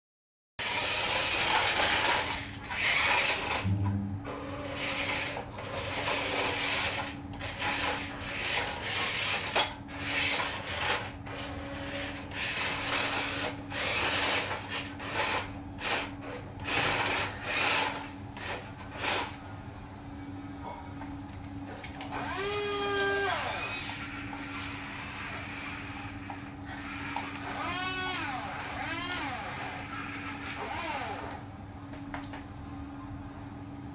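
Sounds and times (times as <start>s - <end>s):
toy truck motor whirring: 0.6s - 3.7s, 4.3s - 19.4s, 22.0s - 31.4s
steady low hum: 0.6s - 33.9s.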